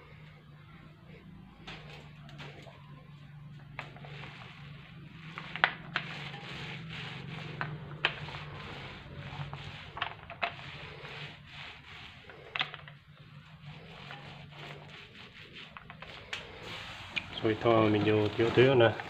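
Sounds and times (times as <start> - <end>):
paint roller rasping on textured surface: 1.6 - 19.0.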